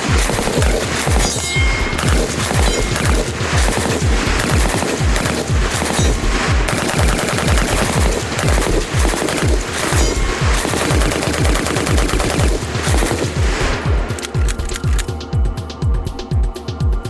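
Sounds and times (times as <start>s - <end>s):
automatic machine-gun fire: 0.0s - 15.1s
fast heavy beat music: 0.0s - 17.0s.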